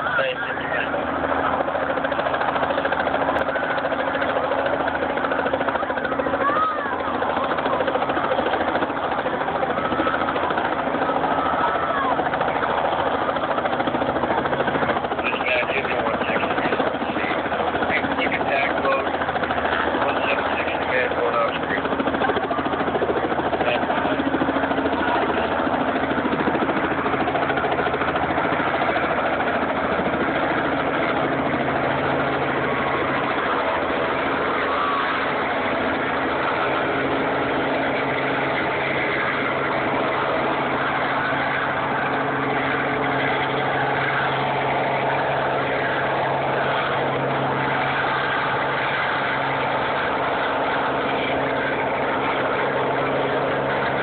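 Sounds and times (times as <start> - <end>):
engine droning steadily: 0.0 - 54.0.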